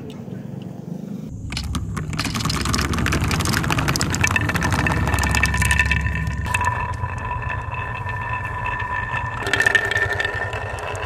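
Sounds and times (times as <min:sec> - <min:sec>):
marbles rolling and clacking: 0:01.3 - 0:11.0.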